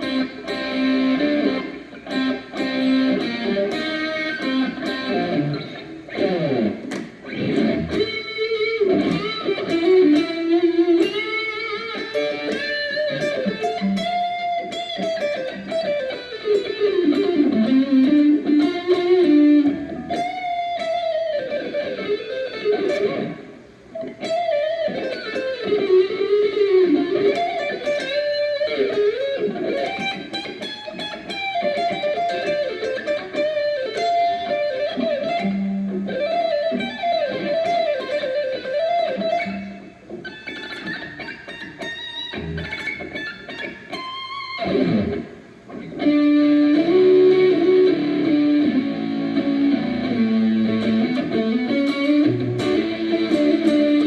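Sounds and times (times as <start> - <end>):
electric guitar solo melody: 0.0 - 54.0.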